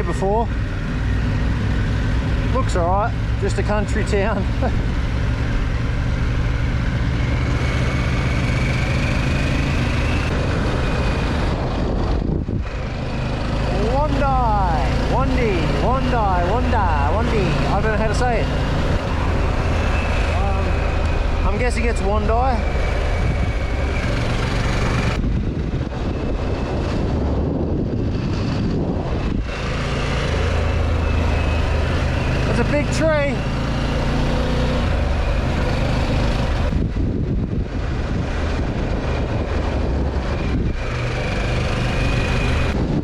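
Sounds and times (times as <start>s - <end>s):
wind and road noise: 0.0s - 43.0s
motorcycle engine running: 0.1s - 43.0s.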